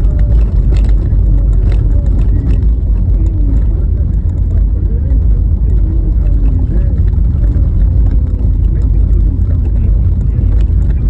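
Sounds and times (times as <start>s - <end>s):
tyres rumbling on rough road: 0.0s - 11.0s.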